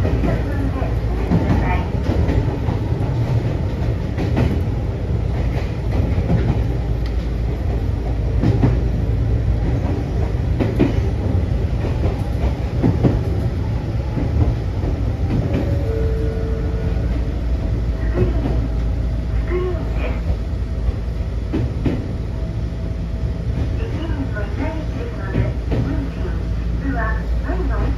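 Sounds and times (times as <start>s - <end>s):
train rumbling on rails: 0.0s - 27.9s.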